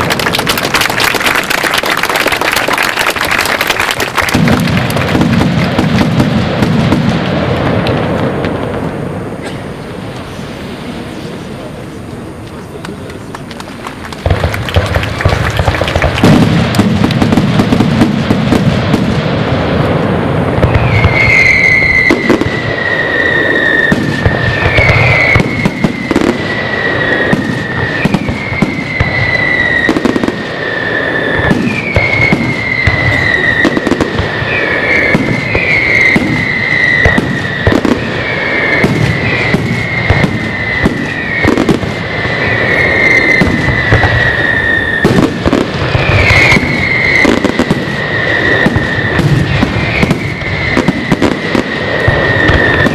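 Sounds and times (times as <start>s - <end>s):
falling firework whistles: 0.0s - 11.6s, 14.2s - 52.9s
fireworks bangs and crackling: 0.0s - 52.9s.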